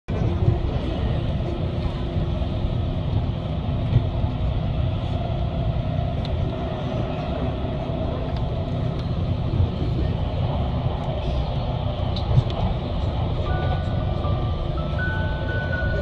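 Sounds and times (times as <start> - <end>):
train rumble from inside: 0.1 - 16.0.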